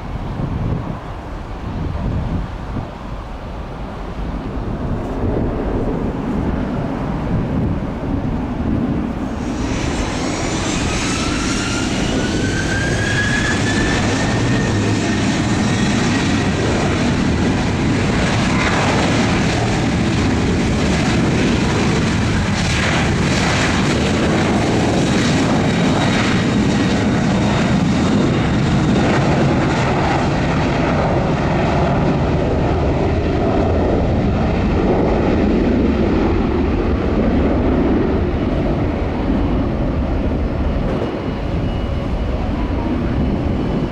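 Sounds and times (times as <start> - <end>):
jet engines running with whine: 0.0 - 43.9.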